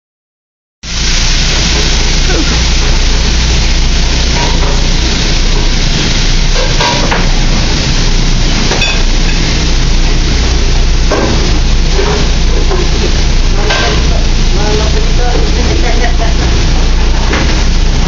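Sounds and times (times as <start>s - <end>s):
pans sizzling: 0.8s - 18.0s
exhaust hood fan: 0.9s - 18.0s.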